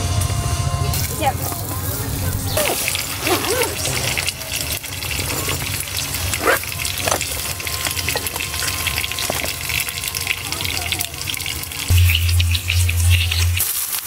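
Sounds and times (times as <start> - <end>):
fish sizzling in oil: 0.9 - 14.0.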